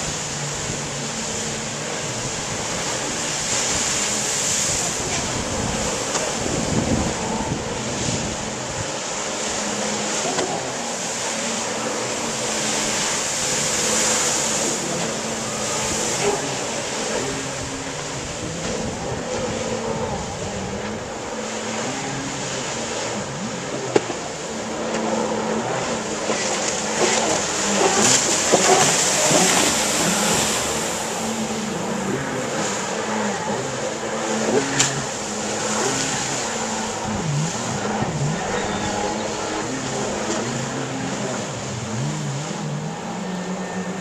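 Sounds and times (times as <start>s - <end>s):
jet ski engines running: 0.0s - 44.0s.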